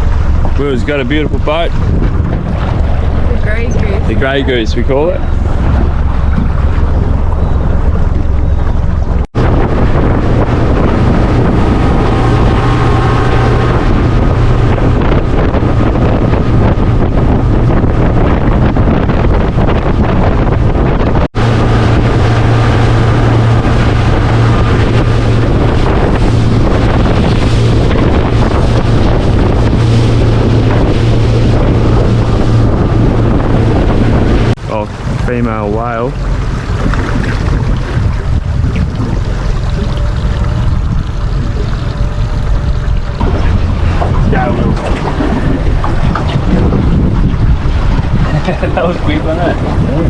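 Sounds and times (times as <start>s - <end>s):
motorboat engine running: 0.0s - 50.0s
water rushing over hull: 0.0s - 50.0s
wind buffeting microphone: 0.0s - 50.0s.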